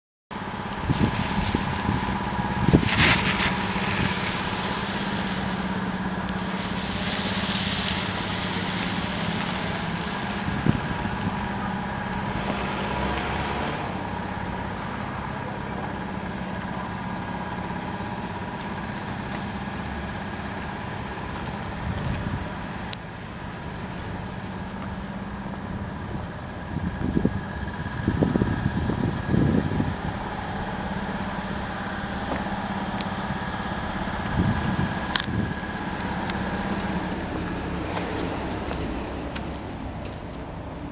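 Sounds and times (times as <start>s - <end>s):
van engine idling: 0.3s - 40.9s.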